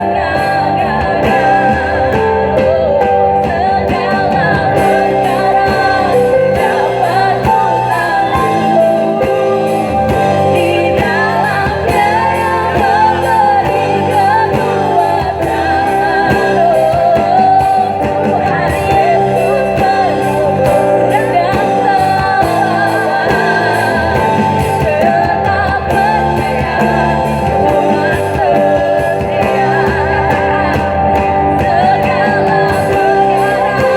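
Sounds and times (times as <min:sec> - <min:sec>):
lead singer singing: 0:00.0 - 0:33.9
rock band playing: 0:00.0 - 0:33.9.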